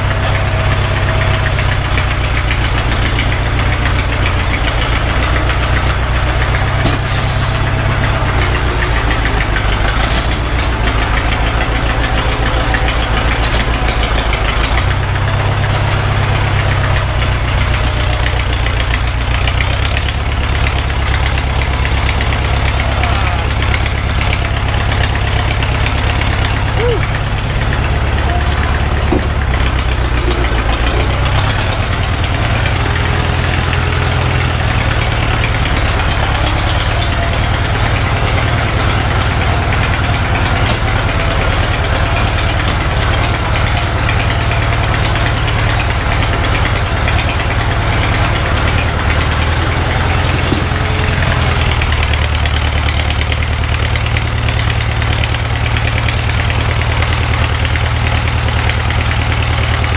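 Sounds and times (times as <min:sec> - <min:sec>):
old vehicle engine running: 0:00.0 - 0:59.9.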